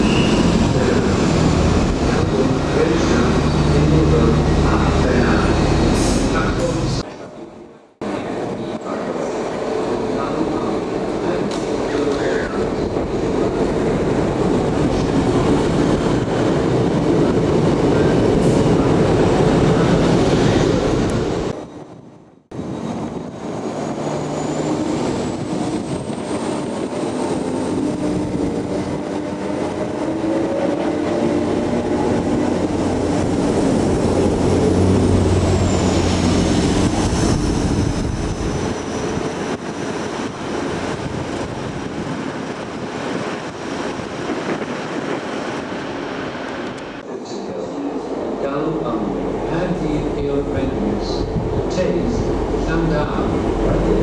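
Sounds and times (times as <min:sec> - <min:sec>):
train engine and wheels rumbling: 0:00.0 - 0:54.0
train engines running: 0:08.0 - 0:54.0.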